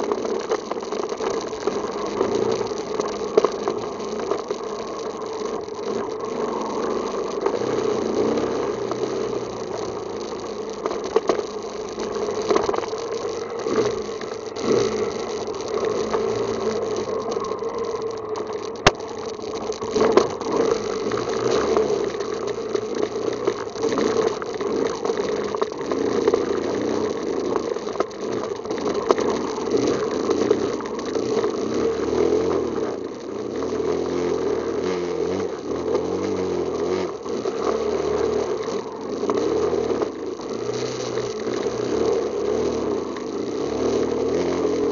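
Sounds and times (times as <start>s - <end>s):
atv engine idling: 0.0s - 44.9s.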